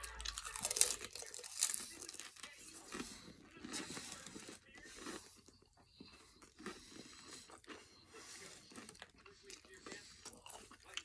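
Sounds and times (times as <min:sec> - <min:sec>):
crunchy taco chewing: 0:00.0 - 0:11.0.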